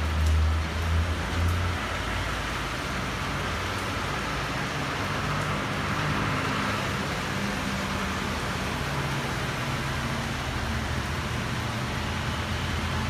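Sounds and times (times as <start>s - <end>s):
cars driving on wet street: 0.0s - 13.0s
heavy rain hissing: 0.0s - 13.0s.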